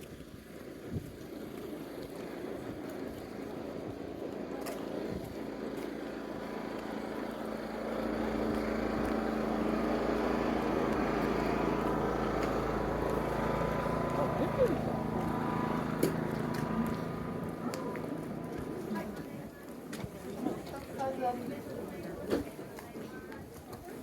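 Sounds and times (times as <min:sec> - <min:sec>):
engine running with low hum: 0:00.0 - 0:20.8.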